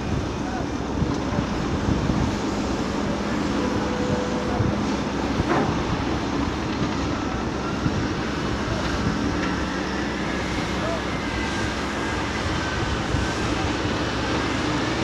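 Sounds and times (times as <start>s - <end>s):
diesel machinery engine hum: 0.0s - 15.0s.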